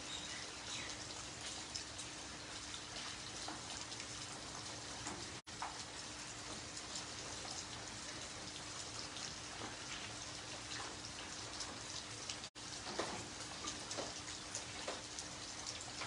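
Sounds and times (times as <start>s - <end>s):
heavy rain on pavement: 0.0s - 16.0s.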